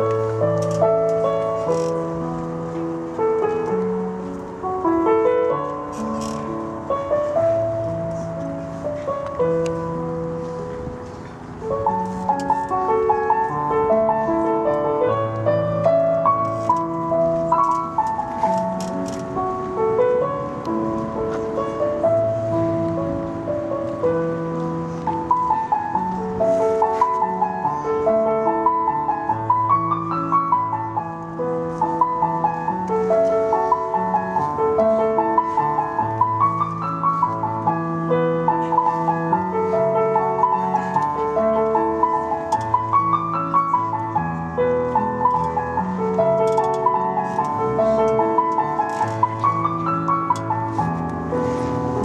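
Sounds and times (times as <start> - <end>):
solo piano music: 0.0 - 52.0.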